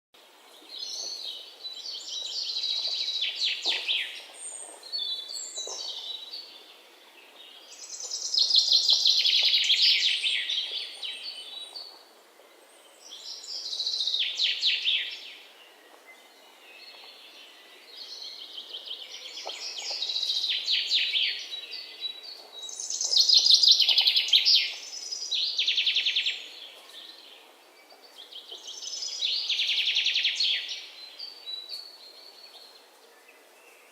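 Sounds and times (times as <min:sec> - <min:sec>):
songbird singing: 0:00.2 - 0:33.9.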